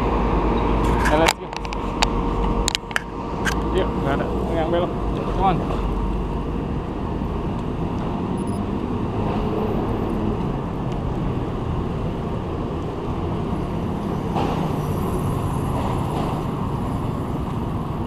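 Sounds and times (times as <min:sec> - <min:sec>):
traffic and road noise: 0:00.0 - 0:18.0.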